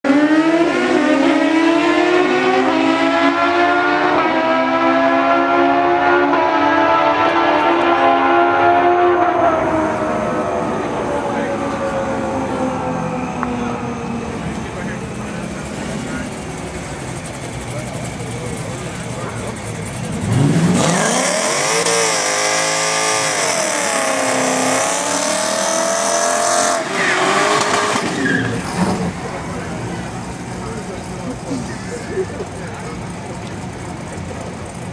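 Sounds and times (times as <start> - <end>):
car engines revving high: 0.0 - 34.9.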